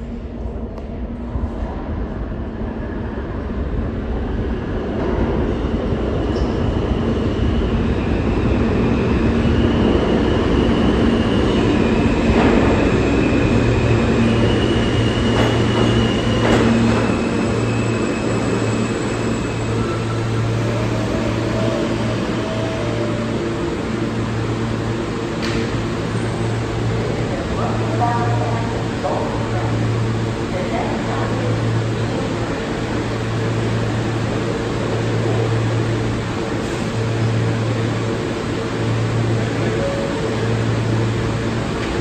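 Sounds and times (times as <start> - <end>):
subway train rumbling: 0.0 - 42.0.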